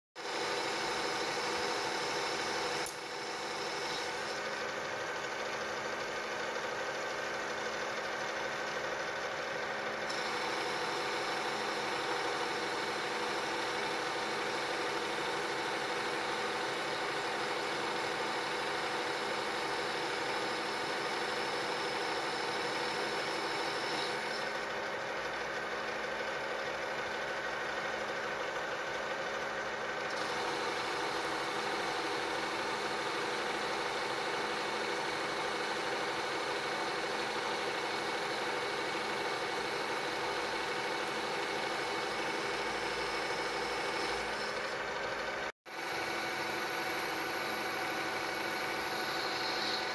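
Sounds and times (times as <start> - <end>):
lathe spindle whirring: 0.2 - 49.9.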